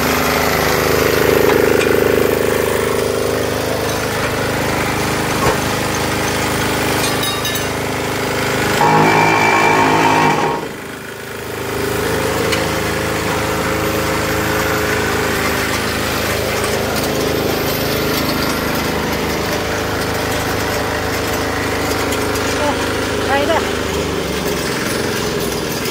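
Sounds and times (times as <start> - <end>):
block machine rattling vibration: 3.5 - 25.9.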